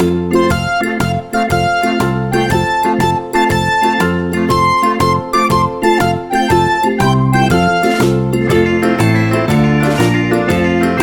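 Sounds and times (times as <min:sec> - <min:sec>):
upbeat keyboard music with bass: 0:00.0 - 0:11.0.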